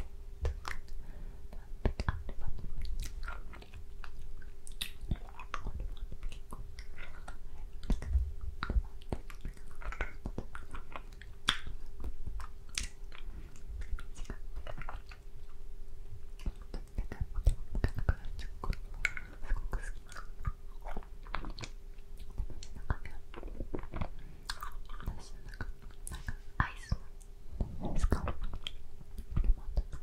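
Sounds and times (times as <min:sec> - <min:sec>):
wet mouth clicks and smacks: 0:00.4 - 0:15.6, 0:16.4 - 0:27.3, 0:27.9 - 0:30.0.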